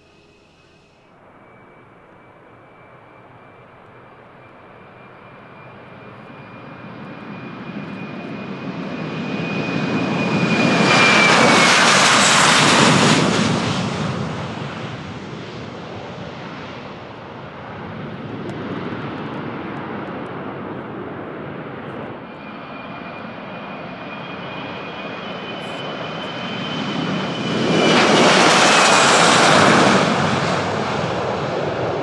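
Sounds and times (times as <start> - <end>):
high engine whine: 0.0 - 32.0
jet aircraft flypast: 0.0 - 32.0.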